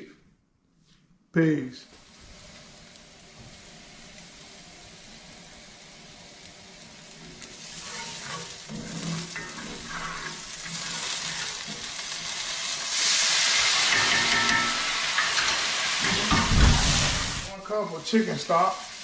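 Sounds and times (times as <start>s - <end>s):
food sizzling in skillet: 1.9s - 19.0s.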